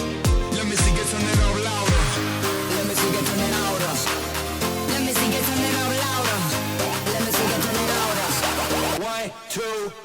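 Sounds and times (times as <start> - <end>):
electronic music with heavy bass: 0.0 - 9.9.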